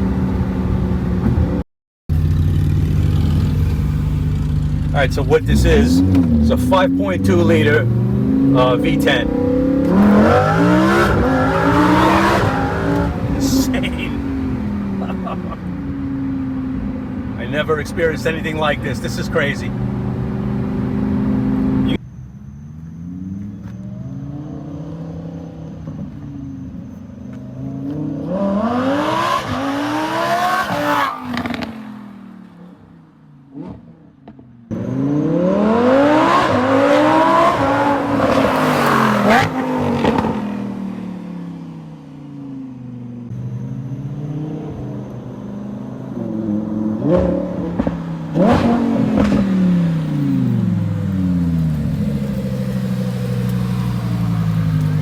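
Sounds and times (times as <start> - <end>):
sports car engine accelerating hard: 0.0 - 55.0.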